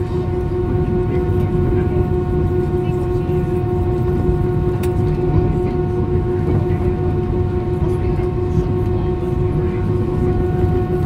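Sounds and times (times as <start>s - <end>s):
jet engines whining: 0.0s - 11.0s
low rumble: 0.0s - 11.0s.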